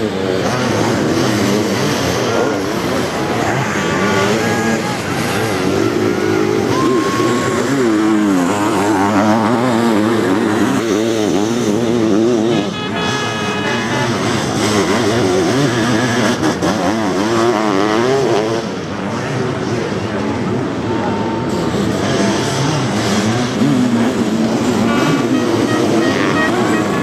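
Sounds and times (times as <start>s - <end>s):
racing engines revving: 0.0s - 27.0s.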